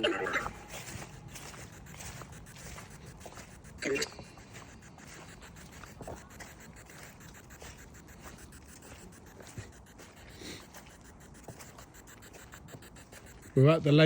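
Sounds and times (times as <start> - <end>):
faint scratching and rustling: 0.0 - 14.0.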